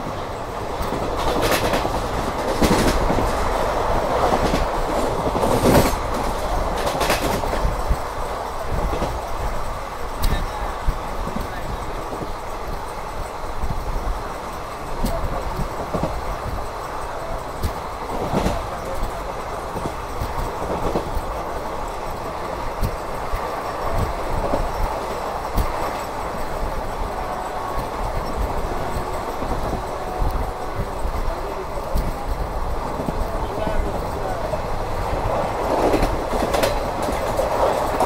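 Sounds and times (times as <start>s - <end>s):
train coach rumble: 0.0s - 38.0s.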